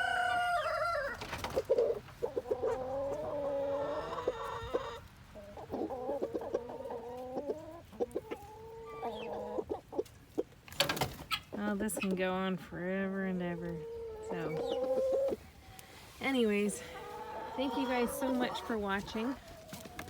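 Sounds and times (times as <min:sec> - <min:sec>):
chickens clucking and squawking: 0:00.0 - 0:20.0.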